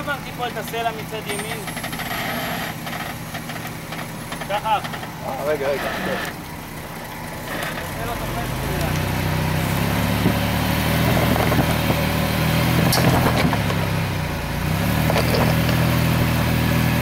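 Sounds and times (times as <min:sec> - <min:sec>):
suv engine at low revs: 0:00.0 - 0:17.0.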